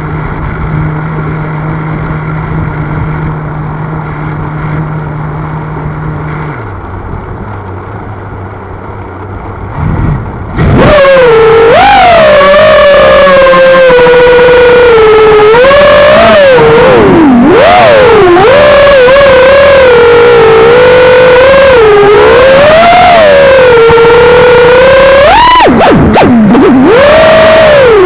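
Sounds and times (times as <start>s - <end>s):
drone motors whining: 0.0s - 8.1s, 8.8s - 28.0s.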